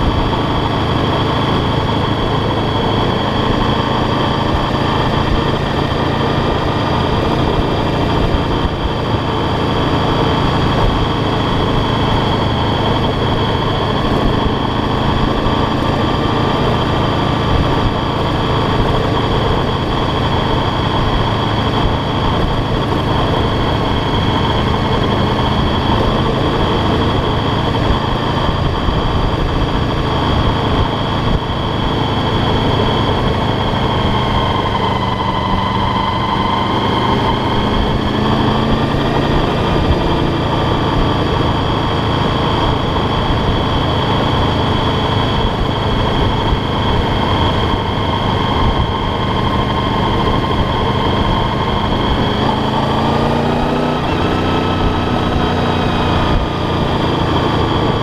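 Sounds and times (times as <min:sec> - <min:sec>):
motorcycle engine running: 0:00.0 - 0:58.0
wind rumble on microphone: 0:00.0 - 0:58.0.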